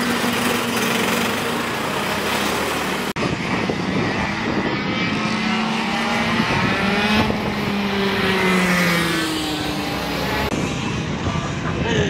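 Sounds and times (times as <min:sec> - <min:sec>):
racing kart engines: 0:00.0 - 0:12.0.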